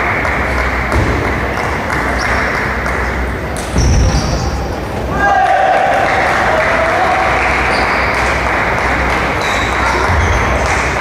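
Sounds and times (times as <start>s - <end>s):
crowd noise in a hall: 0.0s - 11.0s.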